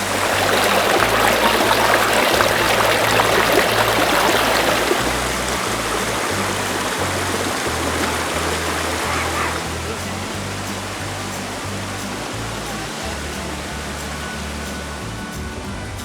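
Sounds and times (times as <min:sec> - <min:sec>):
background music bass line: 0:00.0 - 0:16.0
stream water rushing: 0:00.0 - 0:16.0.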